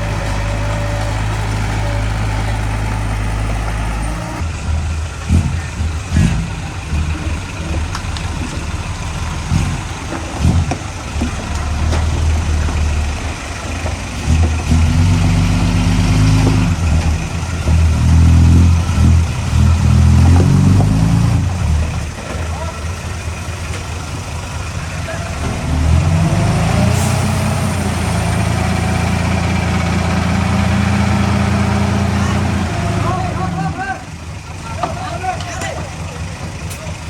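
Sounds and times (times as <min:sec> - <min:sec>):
heavy diesel engine under load: 0:00.0 - 0:37.0.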